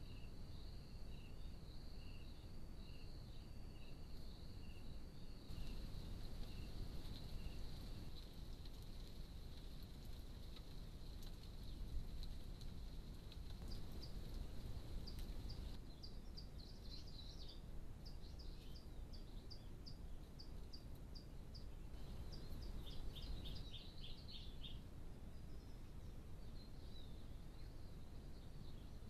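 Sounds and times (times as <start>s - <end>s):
bird chirping: 0.0s - 8.3s, 13.6s - 29.0s
low background hiss and rumble: 0.0s - 29.0s.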